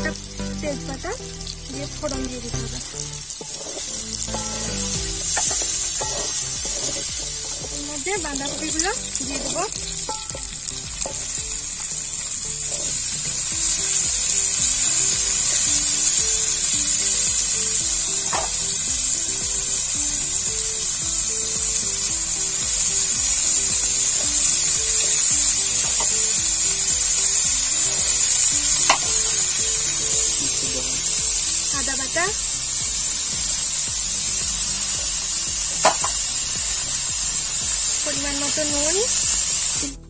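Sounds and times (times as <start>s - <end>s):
potatoes sizzling in oil: 0.0s - 40.0s
soft background music: 0.0s - 40.0s
cabbage stirred in pan: 1.0s - 39.8s.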